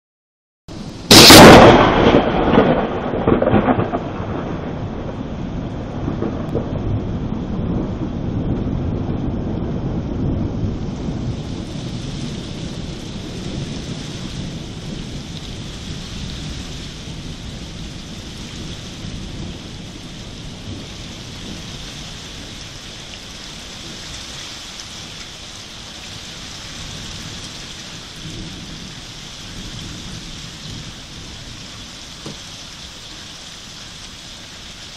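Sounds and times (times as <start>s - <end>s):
thunder crack and rumble: 0.7s - 32.7s
heavy rain hiss: 0.7s - 34.9s.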